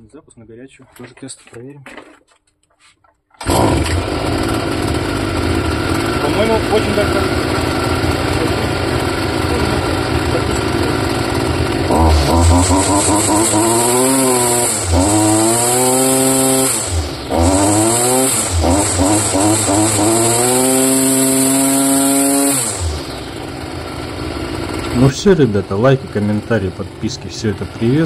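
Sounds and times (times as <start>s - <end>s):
grass trimmer engine revving: 3.4s - 28.0s.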